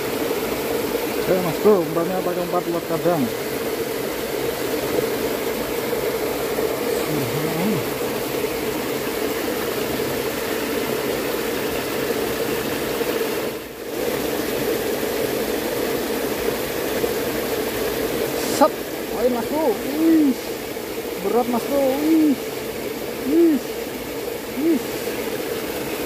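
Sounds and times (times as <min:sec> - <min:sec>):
fast-flowing stream rushing: 0:00.0 - 0:26.0.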